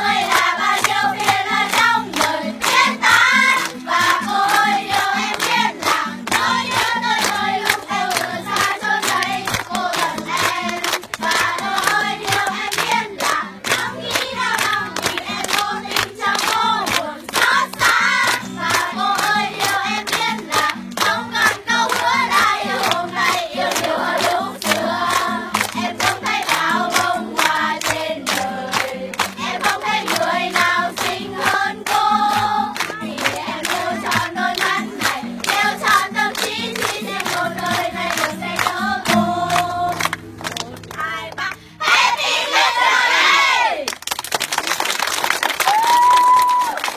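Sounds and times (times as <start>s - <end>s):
group singing in chorus: 0.0s - 40.2s, 41.8s - 43.8s
rhythmic hand clapping: 0.0s - 41.7s, 43.8s - 46.9s
acoustic guitar: 0.0s - 41.8s.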